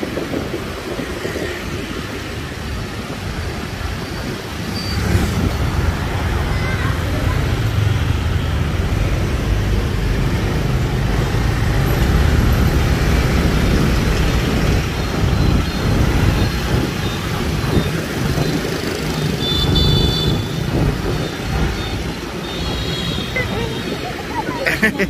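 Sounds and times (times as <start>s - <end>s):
road rumble: 0.0s - 25.0s
scooter engines running: 0.0s - 25.0s.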